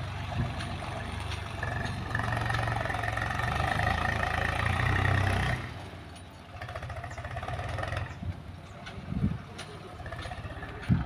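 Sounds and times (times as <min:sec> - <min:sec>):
heavy diesel engine with whine: 0:00.0 - 0:11.0.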